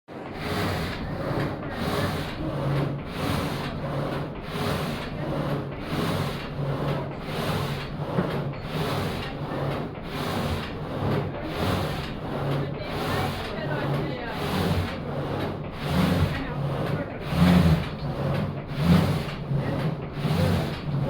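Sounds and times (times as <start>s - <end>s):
frame saw rasping through log: 0.1s - 21.0s.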